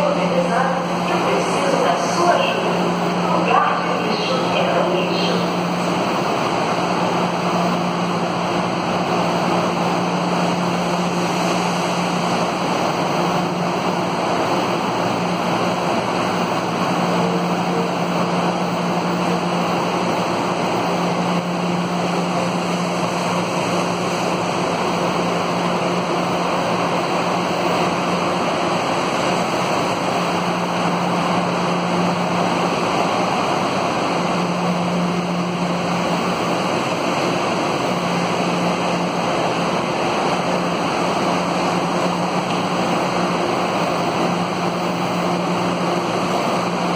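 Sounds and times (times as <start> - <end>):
metro train rushing: 0.0 - 46.9.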